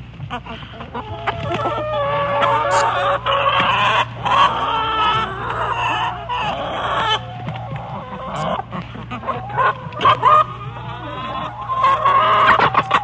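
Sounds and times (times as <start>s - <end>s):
chickens clucking and crowing: 0.0s - 13.0s
steady low hum: 0.0s - 13.0s.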